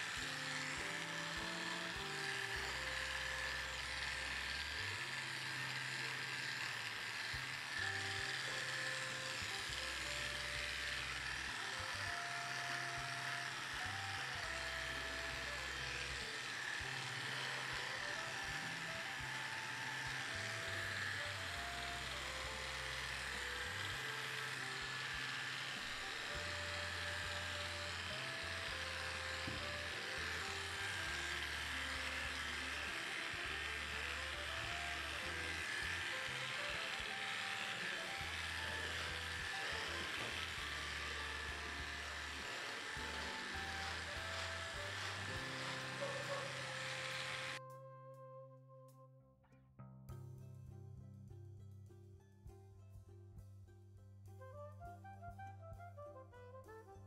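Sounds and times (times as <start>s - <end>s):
electric clipper buzzing: 0.0s - 47.7s
background music: 0.0s - 57.0s.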